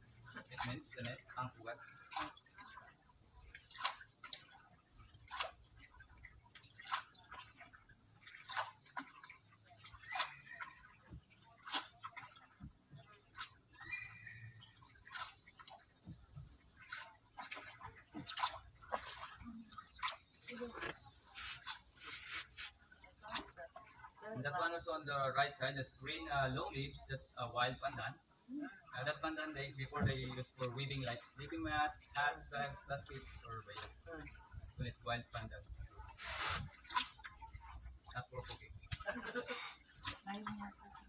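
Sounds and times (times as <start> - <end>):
paddle splashing in water: 0.0 - 25.4, 28.9 - 41.0
high-pitched insect drone: 0.0 - 41.0.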